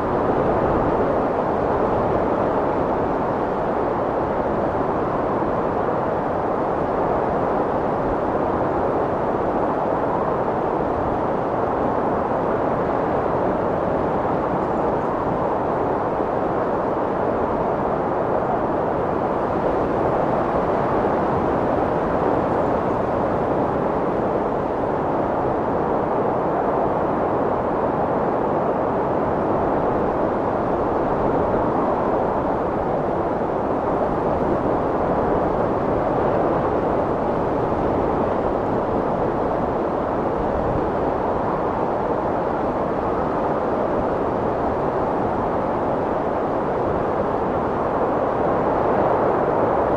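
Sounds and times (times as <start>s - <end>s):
strong wind blowing: 0.0s - 49.9s.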